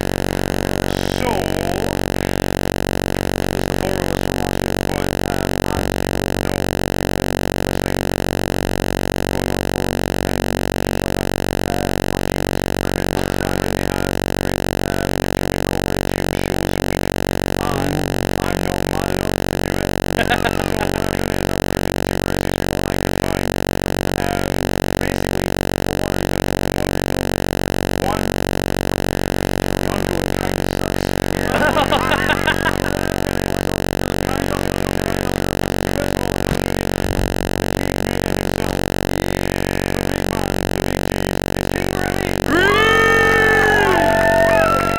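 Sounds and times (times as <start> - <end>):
electrical mains hum: 0.0 - 44.9.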